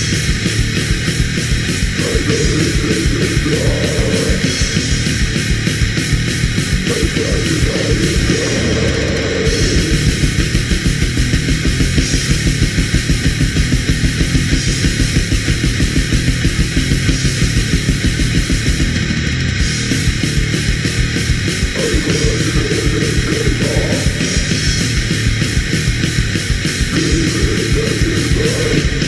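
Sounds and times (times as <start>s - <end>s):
distorted metal guitars: 0.0s - 29.0s
fast drumbeat: 0.0s - 29.0s.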